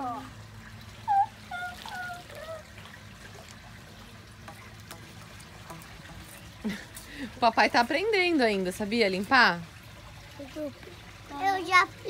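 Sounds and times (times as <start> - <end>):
pool water trickling: 0.0 - 12.0.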